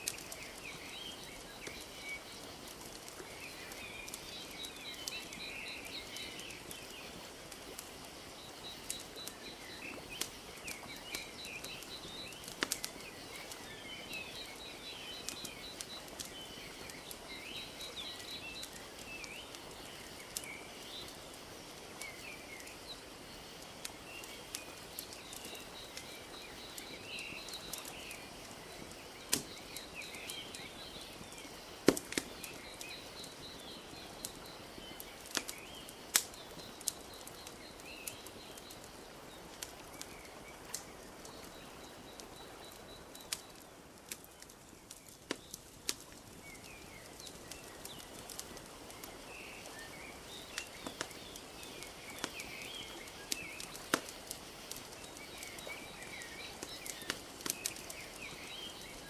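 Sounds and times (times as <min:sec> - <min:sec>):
small birds chirping: 0:00.0 - 0:59.0
wood fire crackling: 0:00.0 - 0:59.0.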